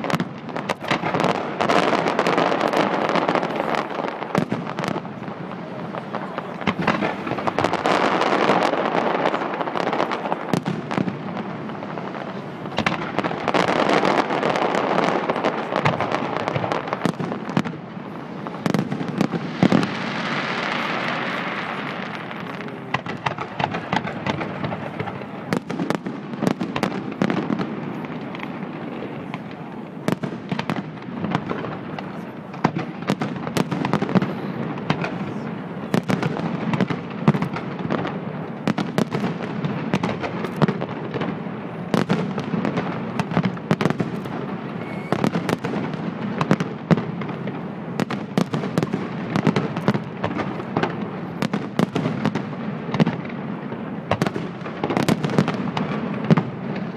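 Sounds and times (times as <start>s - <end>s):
fireworks bangs and crackles: 0.0s - 56.9s
fireworks hissing and crackling: 0.0s - 56.9s.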